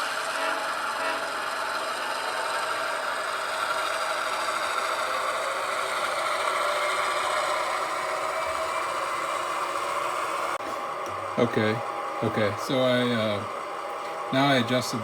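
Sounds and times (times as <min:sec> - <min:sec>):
diesel engine sound from small speakers: 0:00.0 - 0:15.0
model train motors whirring: 0:00.0 - 0:15.0.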